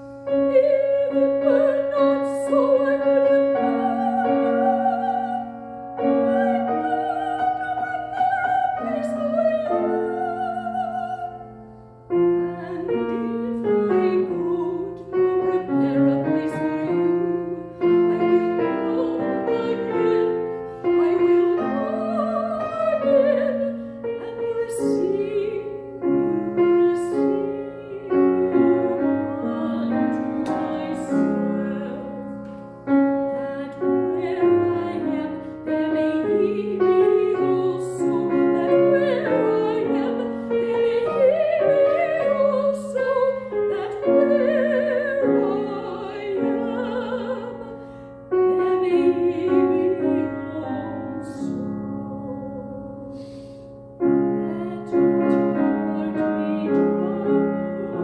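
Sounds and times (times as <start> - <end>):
grand piano: 0.0 - 58.0
woman singing classical style: 0.0 - 58.0.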